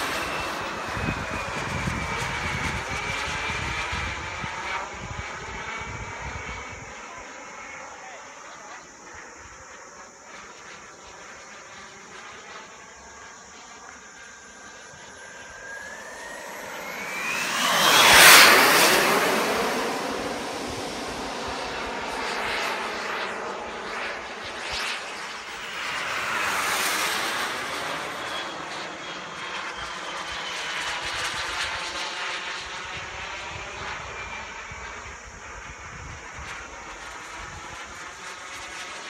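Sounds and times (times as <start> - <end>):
model jet turbine whining: 0.0 - 39.0.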